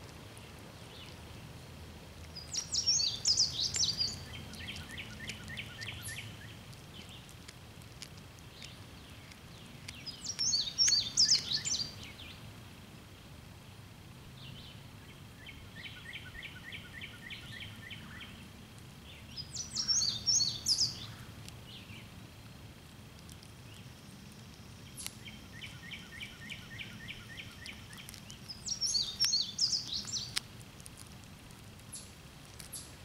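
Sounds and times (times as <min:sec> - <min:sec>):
songbird singing: 0:00.0 - 0:01.6, 0:02.2 - 0:12.5, 0:14.3 - 0:22.5, 0:23.2 - 0:31.1, 0:31.8 - 0:33.0.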